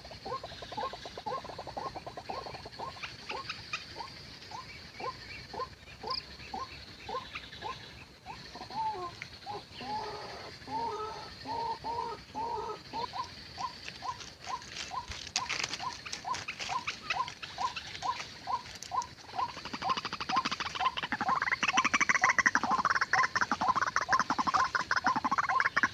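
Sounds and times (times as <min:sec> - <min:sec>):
waterhen calling: 0:00.0 - 0:25.9.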